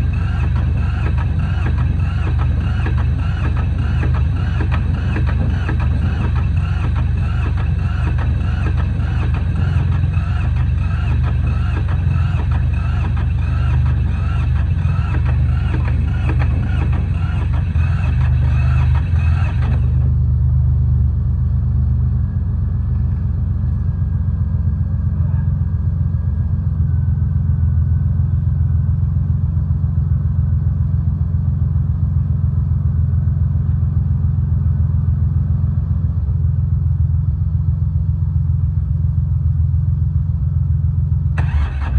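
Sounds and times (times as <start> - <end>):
tractor diesel engine rumbling: 0.0 - 30.3, 38.5 - 41.9.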